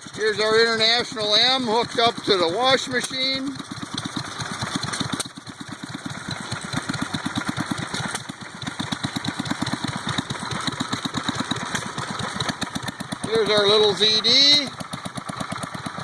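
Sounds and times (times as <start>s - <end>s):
stationary gas engines chugging: 0.0s - 16.0s.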